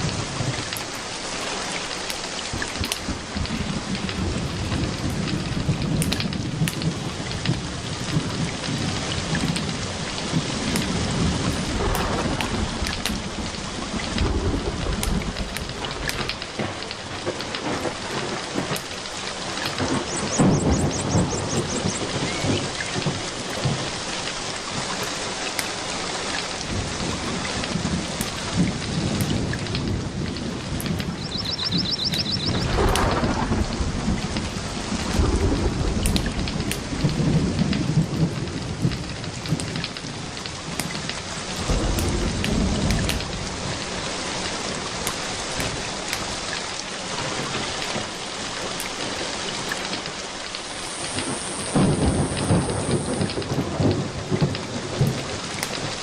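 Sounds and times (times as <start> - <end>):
steady rain falling: 0.0 - 56.0
low thunder rolling: 2.6 - 25.3, 26.4 - 46.6, 50.1 - 56.0.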